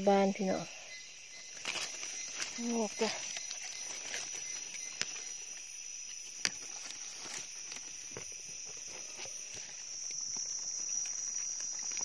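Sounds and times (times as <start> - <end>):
high-pitched insect drone: 0.0 - 12.0
light crackles and clicks: 1.6 - 12.0.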